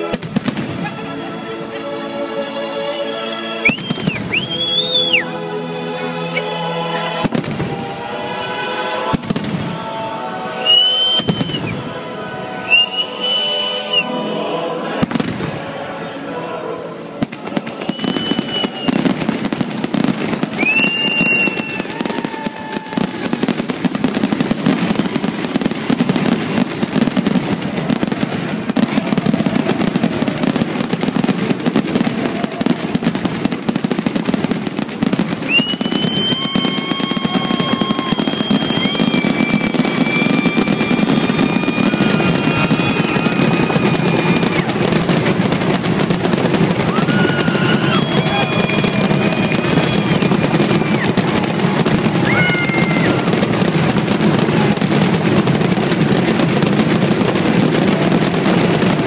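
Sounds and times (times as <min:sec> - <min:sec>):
fireworks crackling and banging: 0:00.0 - 0:01.8, 0:03.6 - 0:05.2, 0:07.1 - 0:14.2, 0:14.8 - 0:59.0
fireworks whistling: 0:03.6 - 0:05.3, 0:07.1 - 0:15.8, 0:16.5 - 0:59.0.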